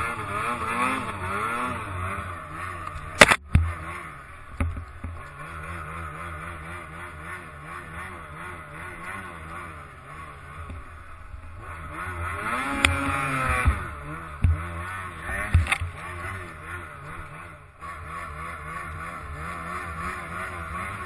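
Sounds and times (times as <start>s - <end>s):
snowmobile engine revving: 0.0s - 21.0s.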